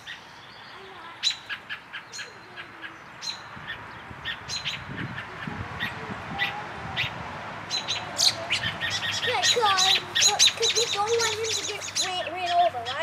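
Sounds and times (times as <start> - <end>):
robin alarm calls: 0.0 - 13.0.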